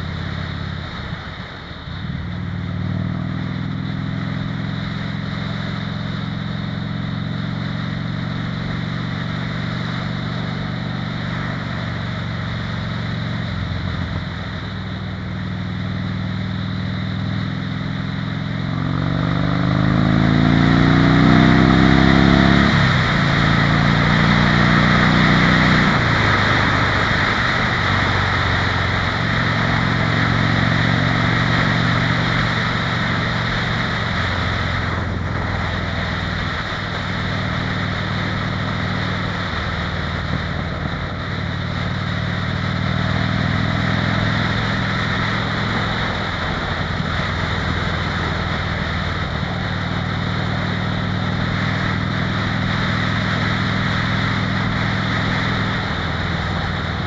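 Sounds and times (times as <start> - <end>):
motorcycle engine running: 0.0 - 57.0
wind rushing over microphone: 8.8 - 57.0.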